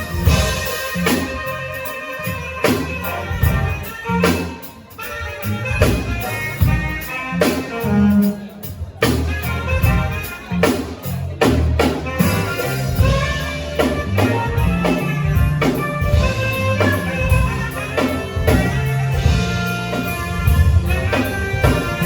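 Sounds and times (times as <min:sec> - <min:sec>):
band music: 0:00.0 - 0:22.0
drum kit steady beat: 0:00.0 - 0:22.0.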